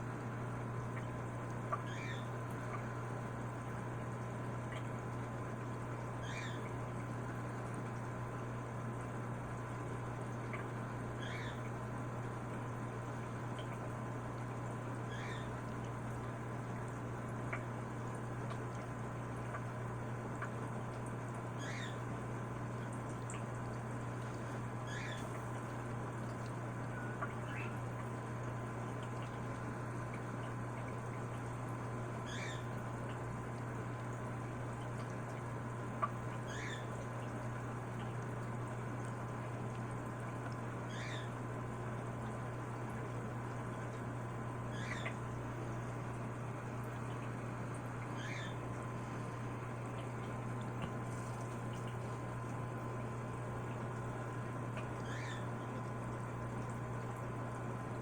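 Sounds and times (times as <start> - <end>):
aquarium equipment hum and water hiss: 0.0 - 58.0.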